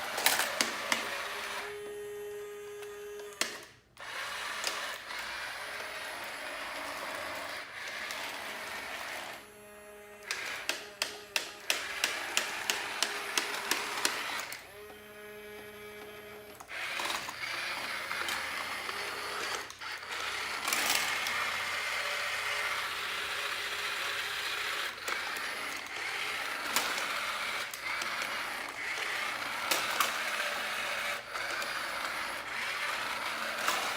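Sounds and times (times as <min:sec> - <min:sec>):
toy bulldozer motor and gears: 0:00.0 - 0:33.9.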